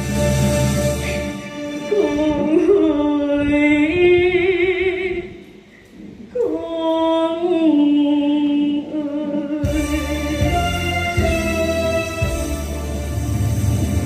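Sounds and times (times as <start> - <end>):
person singing with vibrato: 0.0 - 13.1.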